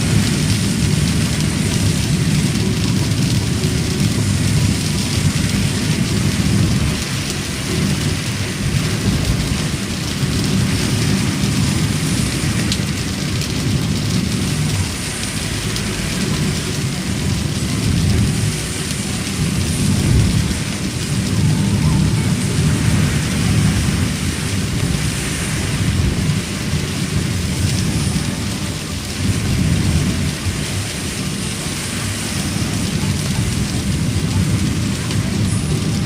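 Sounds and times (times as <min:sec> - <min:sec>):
heavy rain on car roof: 0:00.0 - 0:36.0.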